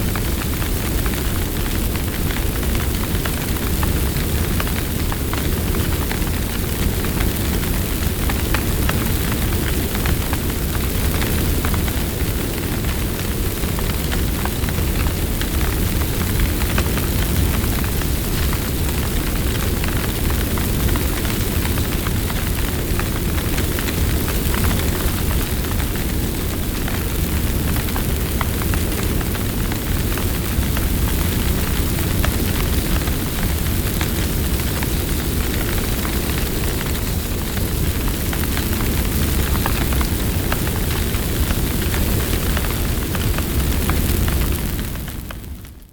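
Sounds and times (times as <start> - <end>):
fire crackling: 0.0 - 45.9
wildfire flame rumble: 0.0 - 45.9.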